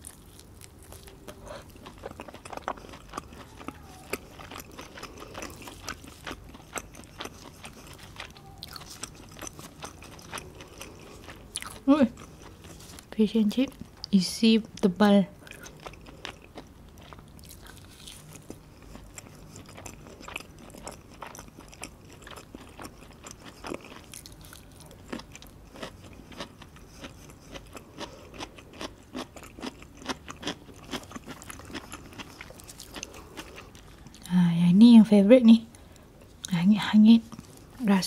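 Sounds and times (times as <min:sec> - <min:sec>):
person chewing crispy fried fish: 0:00.0 - 0:13.1, 0:15.4 - 0:34.3, 0:37.2 - 0:37.8.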